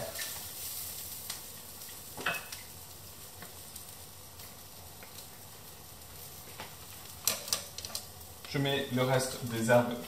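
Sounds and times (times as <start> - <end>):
asparagus sizzling in a pan: 0.0 - 10.0.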